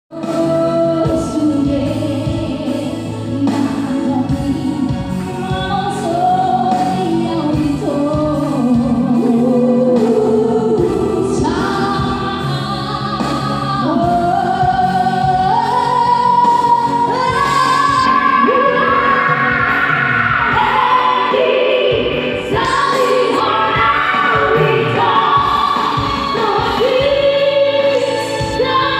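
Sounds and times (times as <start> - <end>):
women singing in harmony: 0.2 - 28.9.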